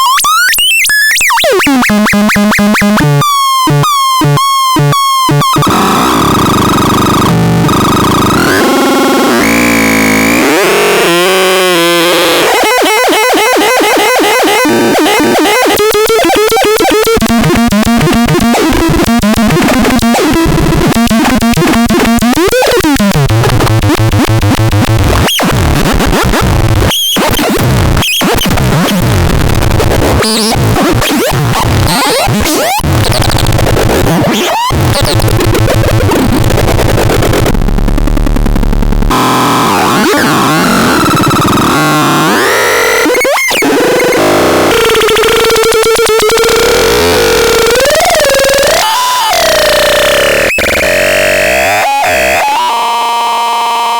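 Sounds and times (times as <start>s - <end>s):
harsh grinding electronic noise: 5.4s - 53.9s.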